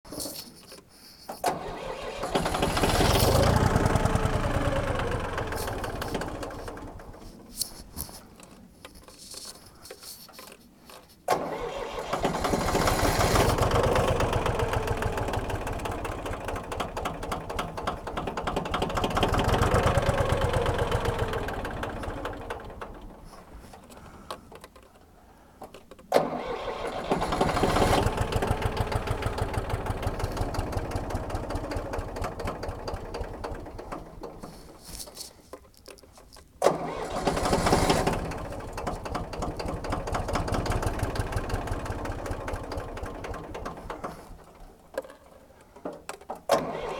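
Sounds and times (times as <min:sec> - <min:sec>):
tractor engine starting: 0:00.1 - 0:24.4, 0:25.8 - 0:45.4, 0:46.4 - 0:46.9.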